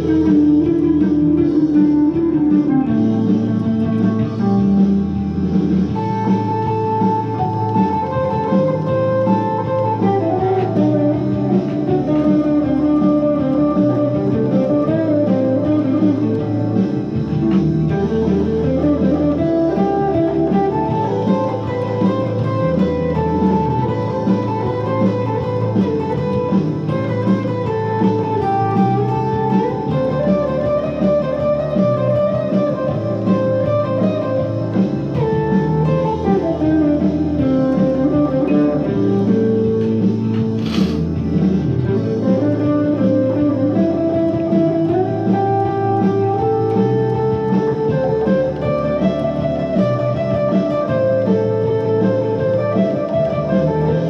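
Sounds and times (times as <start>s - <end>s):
electric guitar blues solo: 0.0s - 54.0s.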